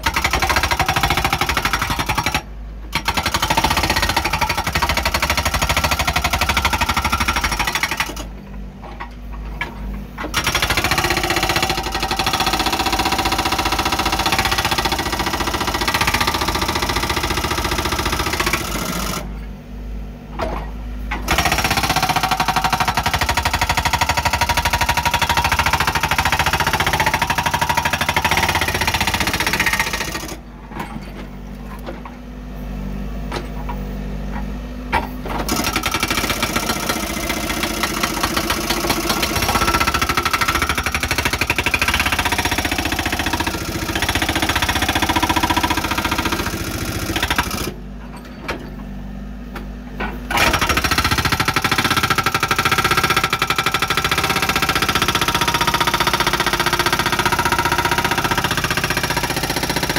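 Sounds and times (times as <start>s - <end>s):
hydraulic breaker hammering: 0.0s - 8.4s, 9.5s - 19.4s, 20.4s - 31.2s, 34.9s - 48.8s, 49.5s - 59.9s.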